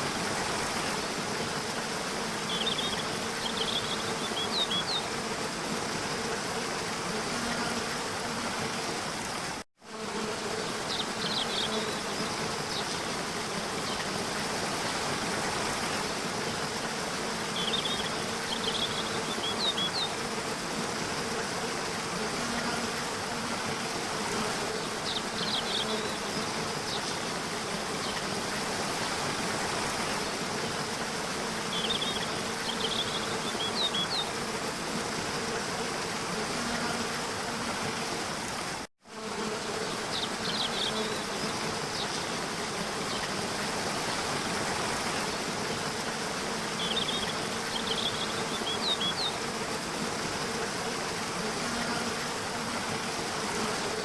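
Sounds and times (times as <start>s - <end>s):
low insect-like buzz: 0.0s - 54.0s.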